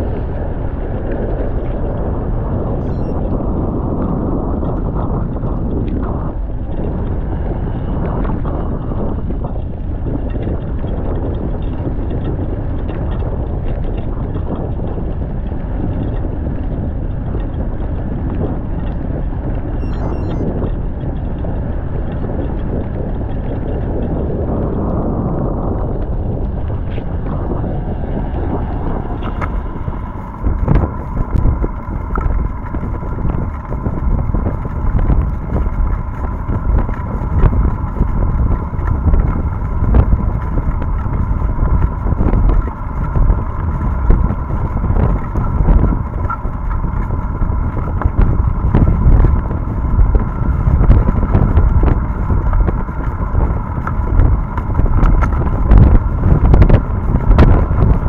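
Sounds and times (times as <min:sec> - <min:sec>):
faint steady whine: 0:00.0 - 0:58.0
wind buffeting microphone: 0:00.0 - 0:58.0.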